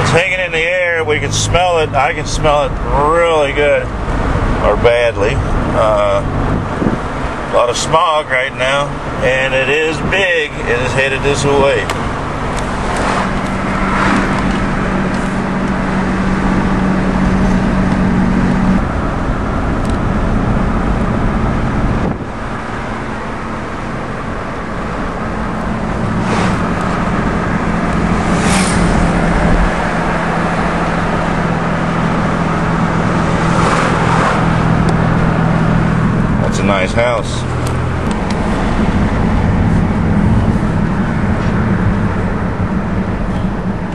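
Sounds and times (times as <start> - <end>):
car engine hum: 0.0 - 43.9
tyre and road noise: 0.0 - 43.9.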